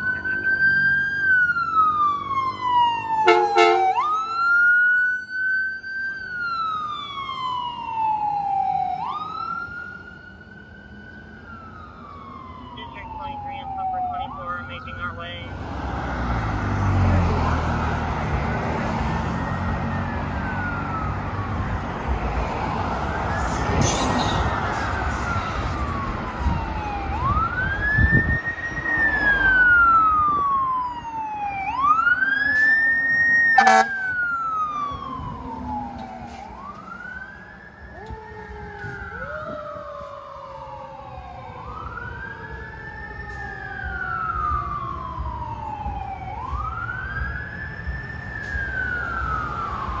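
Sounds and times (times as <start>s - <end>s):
fire engine wail siren: 0.0s - 50.0s
lower second siren: 0.0s - 50.0s
passing car traffic: 0.0s - 50.0s.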